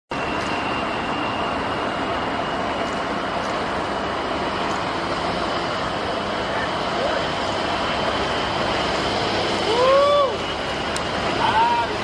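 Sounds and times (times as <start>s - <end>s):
high engine whine: 0.1s - 12.0s
jet engines roaring: 0.1s - 12.0s.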